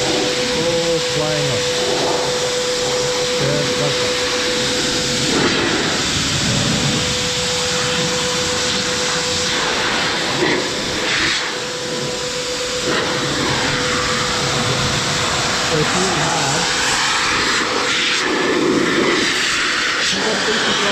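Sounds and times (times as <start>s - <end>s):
air blower rushing with motor whine: 0.0s - 20.9s.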